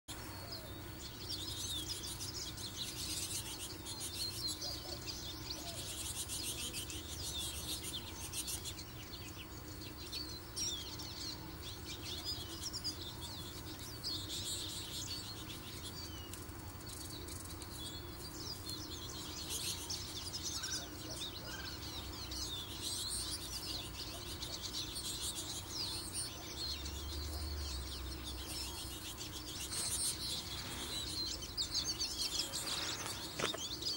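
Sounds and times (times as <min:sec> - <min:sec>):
faint steady hum: 0:00.1 - 0:33.9
small birds chirping: 0:00.1 - 0:33.9.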